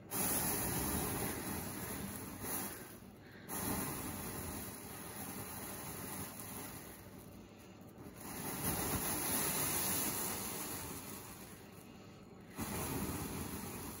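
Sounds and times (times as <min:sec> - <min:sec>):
whooshing sparking fireball: 0:00.0 - 0:14.0.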